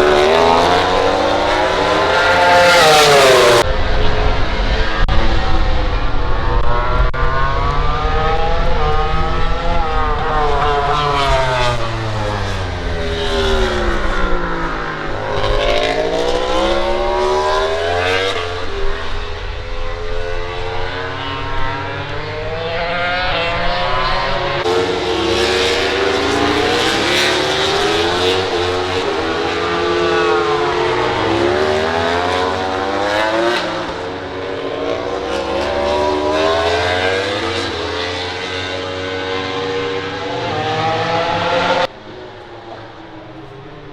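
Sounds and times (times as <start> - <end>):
racing motorcycle engines: 0.0 - 43.9.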